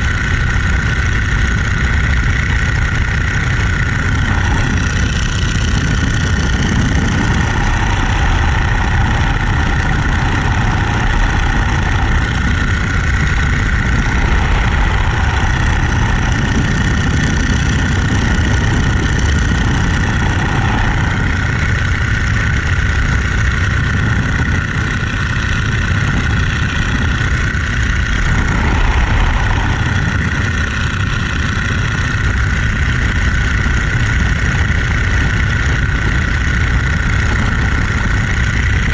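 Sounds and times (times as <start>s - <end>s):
biplane radial engine drone: 0.0s - 38.9s.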